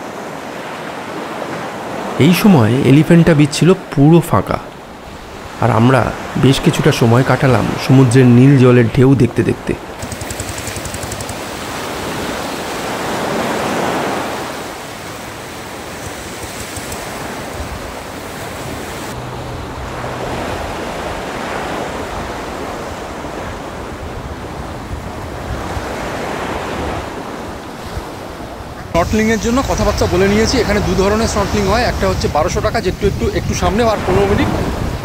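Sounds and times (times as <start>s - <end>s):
small waves breaking on beach: 0.0s - 2.8s, 9.7s - 35.0s.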